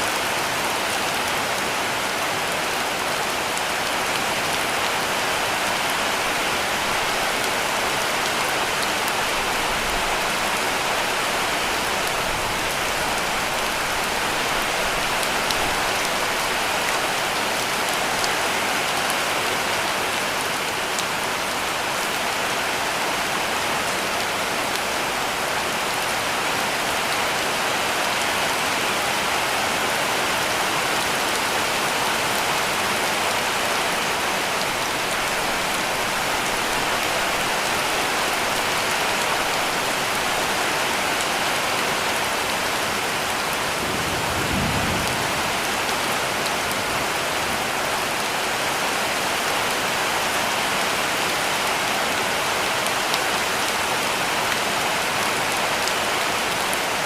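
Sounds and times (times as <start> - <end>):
heavy rain drumming on a roof: 0.0 - 57.0.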